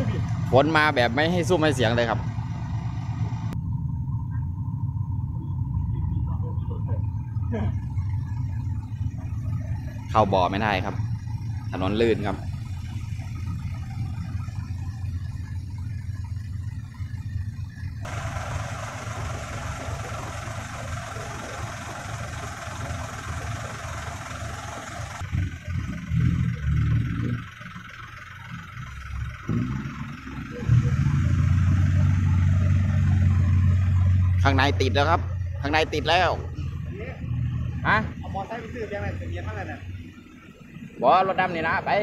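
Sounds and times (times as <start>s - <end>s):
diesel truck engines running: 0.0s - 42.0s
loud engine running close by: 0.0s - 42.0s.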